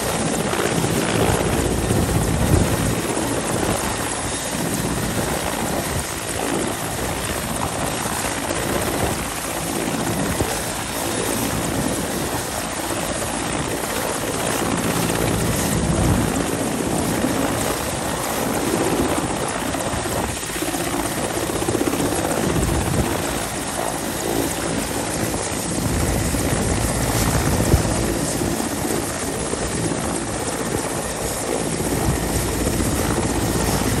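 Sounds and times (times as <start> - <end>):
helicopter rotor throbbing: 0.0 - 34.0
helicopter turbines whining: 0.0 - 34.0.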